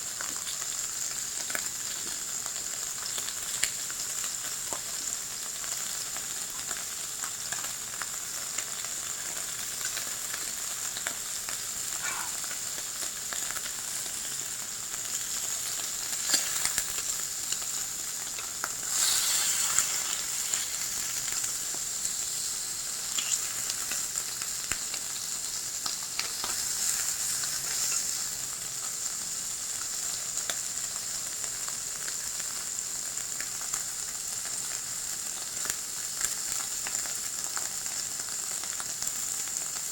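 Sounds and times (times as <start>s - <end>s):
beef sizzling on a hot plate: 0.0s - 39.9s.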